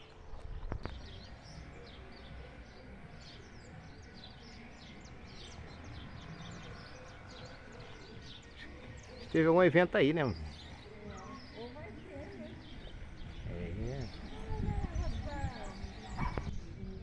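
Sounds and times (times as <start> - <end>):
low wind rumble: 0.0 - 17.0
small birds chirping: 0.0 - 17.0.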